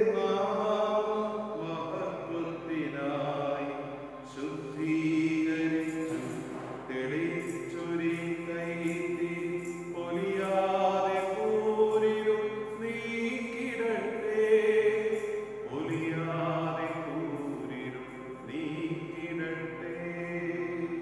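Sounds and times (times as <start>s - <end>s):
person singing liturgical chant: 0.0s - 21.0s.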